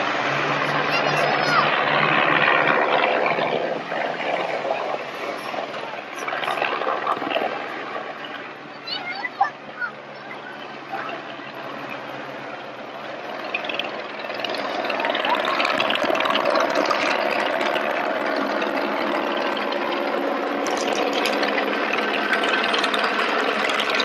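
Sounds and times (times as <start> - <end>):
helicopter flying overhead: 0.0 - 24.0.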